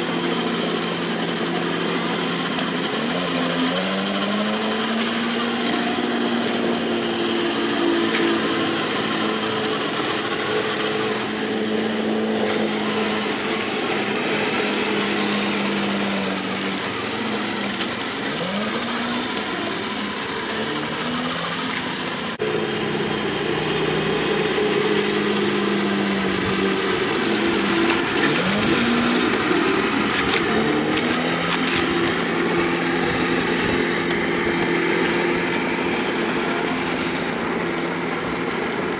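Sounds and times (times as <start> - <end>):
heavy engine revving: 0.0 - 38.9.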